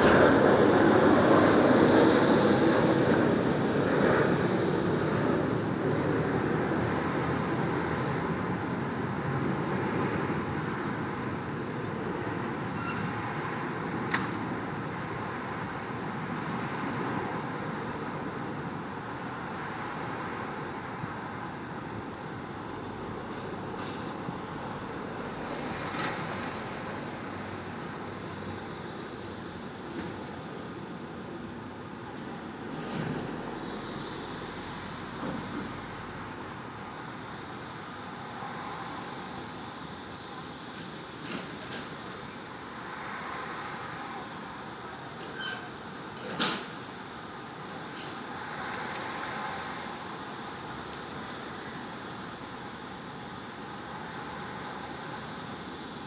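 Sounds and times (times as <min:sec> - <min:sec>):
distant road traffic hum: 0:00.0 - 0:56.0.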